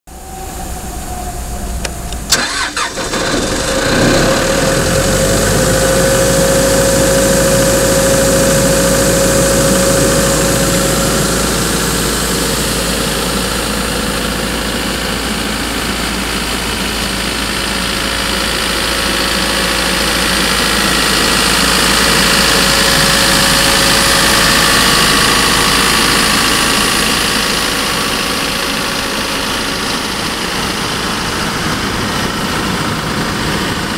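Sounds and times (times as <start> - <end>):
compressor whine: 0.1 - 33.9
engine cranking and running: 0.1 - 33.9.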